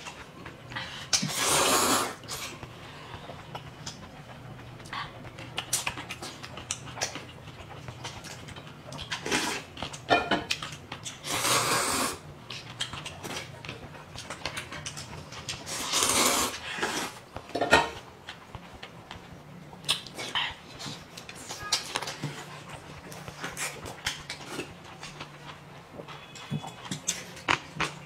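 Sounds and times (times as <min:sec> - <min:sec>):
eating sounds: 0:00.0 - 0:28.0.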